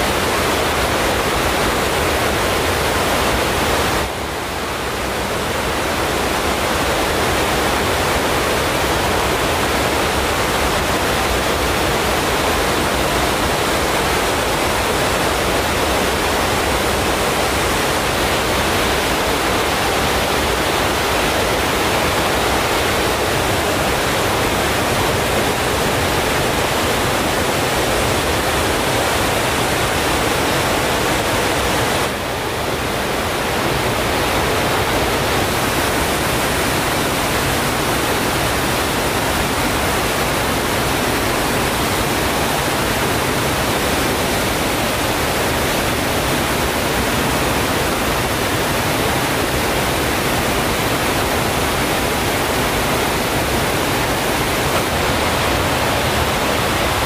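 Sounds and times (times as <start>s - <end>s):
steady rushing noise: 8.0s - 57.0s.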